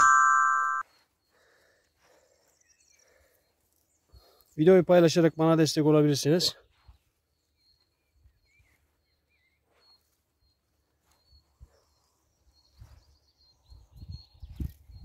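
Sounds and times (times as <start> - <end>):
faint bird chirps: 0.8 - 5.3, 6.5 - 15.0.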